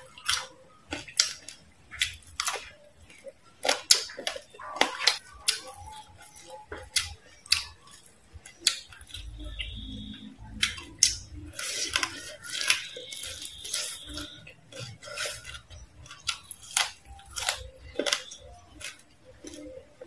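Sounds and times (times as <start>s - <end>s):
crunching and chewing: 0.0s - 20.0s.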